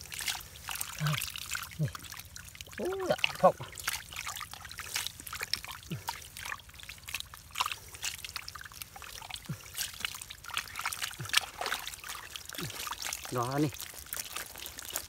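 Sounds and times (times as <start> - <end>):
hands squelching through mud: 0.0 - 15.0.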